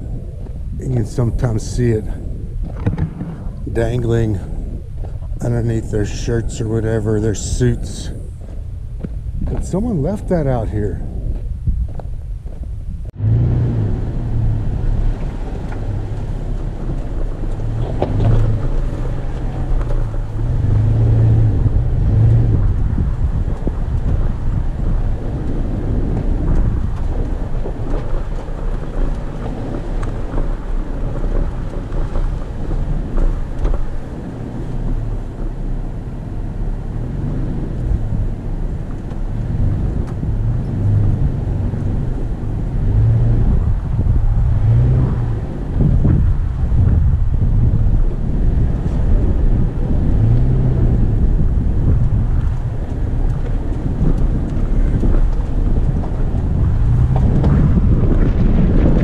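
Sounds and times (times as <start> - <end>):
truck engine at low speed: 0.0 - 59.0
tyres crunching on gravel: 0.4 - 46.9, 48.0 - 59.0.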